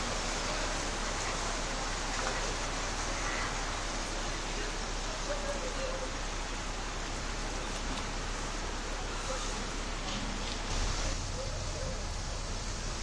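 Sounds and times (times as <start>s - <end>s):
floodwater running across street: 0.0s - 13.0s.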